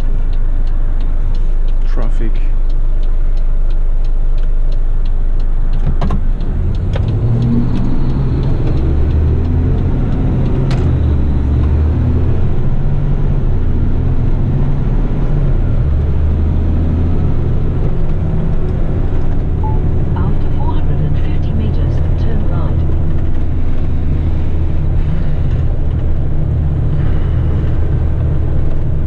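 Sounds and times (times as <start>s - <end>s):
turn indicator ticking: 0.0s - 26.6s
diesel truck engine accelerating: 0.0s - 29.0s.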